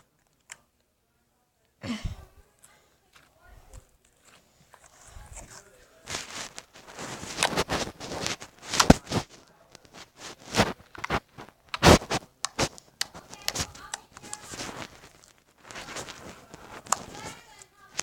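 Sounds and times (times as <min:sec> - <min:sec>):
slime being handled: 0:03.1 - 0:18.0.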